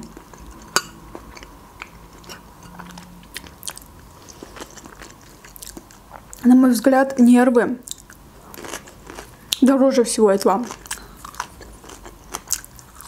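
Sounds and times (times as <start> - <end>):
chewing with wet mouth clicks: 0.0 - 6.4, 7.8 - 9.7, 10.7 - 13.0.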